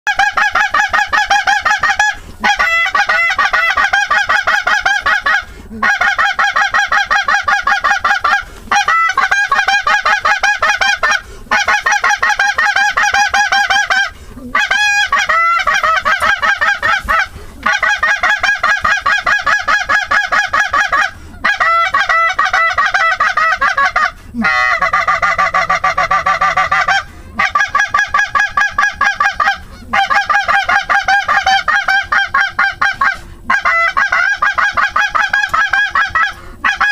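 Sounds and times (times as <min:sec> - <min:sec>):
geese honking: 0:00.1 - 0:36.9.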